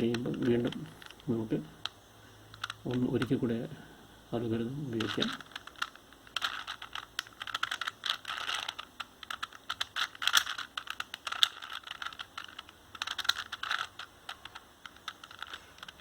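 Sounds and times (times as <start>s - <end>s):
plastic puzzle cube clicking: 0.0s - 3.5s, 4.8s - 16.0s.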